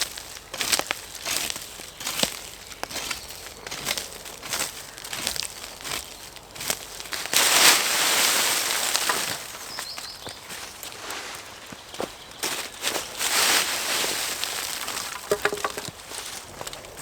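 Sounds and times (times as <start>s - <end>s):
crackling and crunching: 0.0s - 17.0s.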